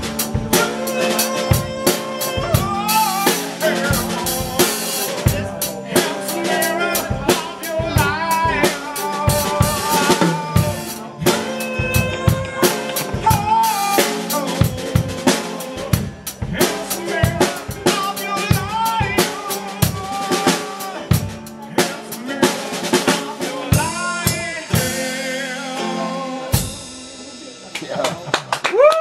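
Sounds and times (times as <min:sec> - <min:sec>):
man singing: 0:00.0 - 0:27.6
acoustic guitar: 0:00.0 - 0:28.6
drum kit playing a beat: 0:00.0 - 0:29.0.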